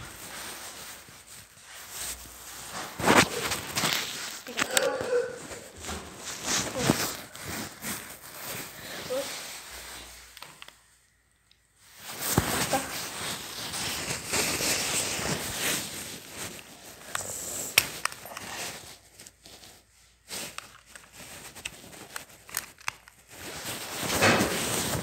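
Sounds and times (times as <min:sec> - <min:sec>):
clothing rustling on microphone: 0:00.0 - 0:10.8, 0:11.8 - 0:25.0.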